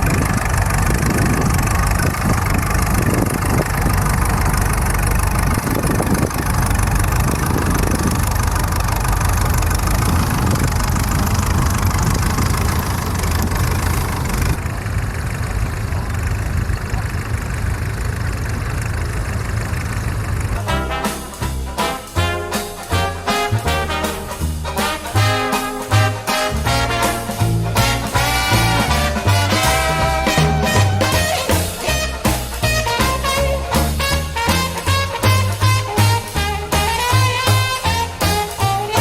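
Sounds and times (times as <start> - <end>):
engine rumbling: 0.0 - 39.0.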